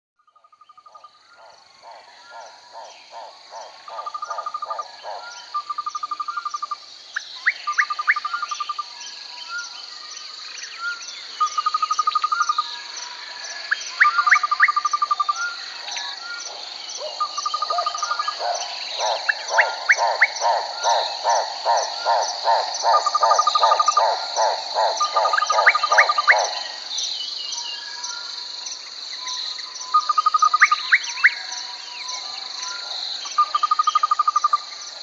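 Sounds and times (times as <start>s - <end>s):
frogs croaking: 0.2s - 35.0s
high insect drone: 0.4s - 35.0s.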